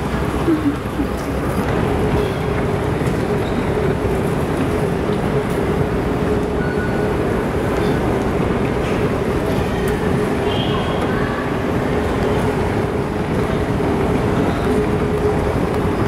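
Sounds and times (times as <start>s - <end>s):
moving walkway rumble: 0.0s - 16.0s.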